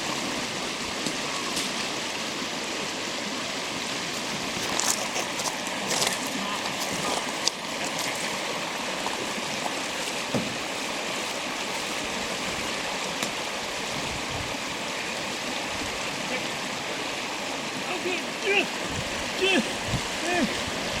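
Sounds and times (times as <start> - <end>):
river current rushing: 0.0 - 21.0.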